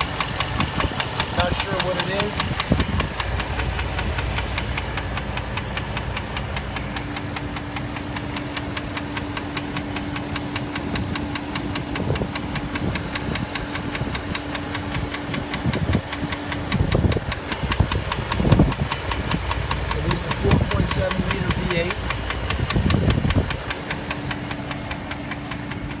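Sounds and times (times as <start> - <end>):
car engine idling: 0.0 - 26.0
rapid ticking knock: 0.0 - 26.0.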